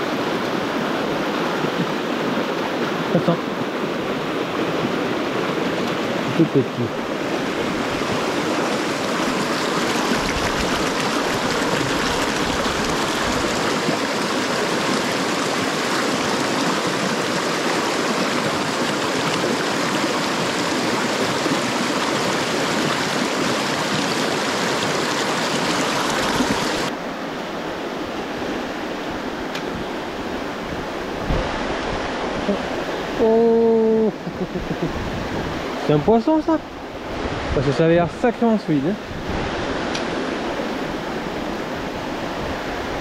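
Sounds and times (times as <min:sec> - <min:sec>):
river water rushing over rocks: 0:00.0 - 0:43.0.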